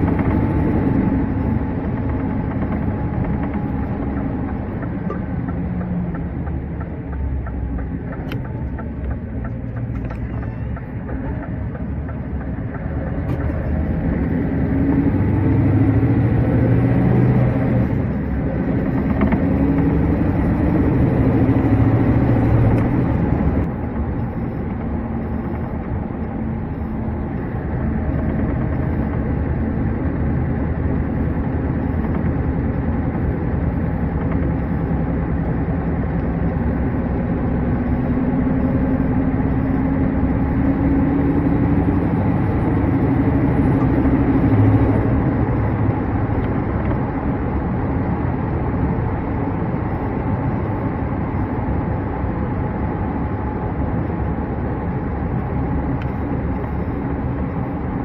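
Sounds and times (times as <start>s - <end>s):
diesel truck engine from cab: 0.0s - 58.0s.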